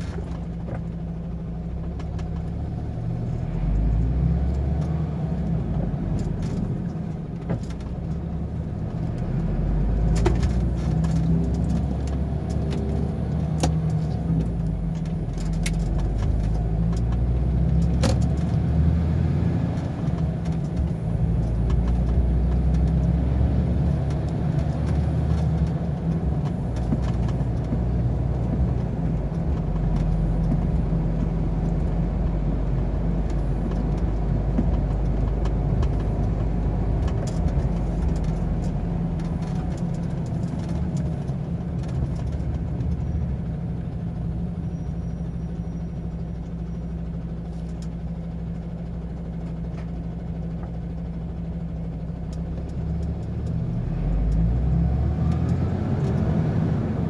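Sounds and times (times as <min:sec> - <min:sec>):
road noise: 0:00.0 - 0:57.0
truck engine running: 0:00.0 - 0:57.0.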